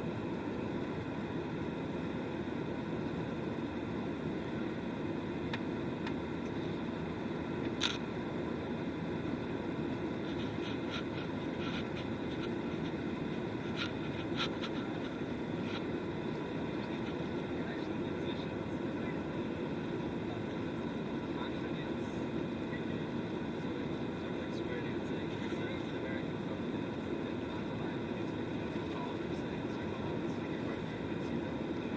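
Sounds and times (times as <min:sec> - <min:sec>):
airliner cabin drone: 0:00.0 - 0:31.9.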